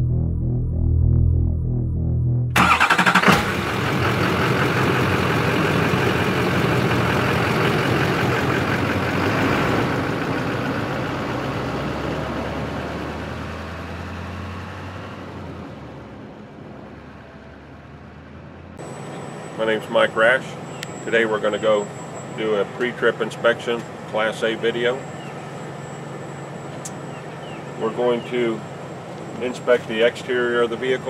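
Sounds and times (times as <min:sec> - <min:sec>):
heavy truck engine running: 0:00.0 - 0:31.0.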